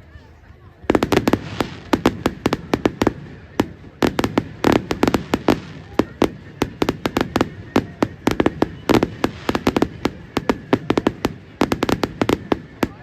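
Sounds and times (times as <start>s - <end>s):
fireworks bangs and cracks: 0.8s - 13.0s.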